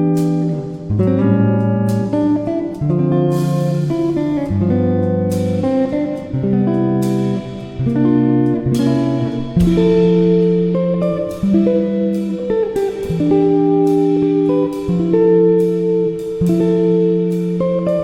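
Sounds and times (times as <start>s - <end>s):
plucked guitar chords: 0.0s - 18.0s.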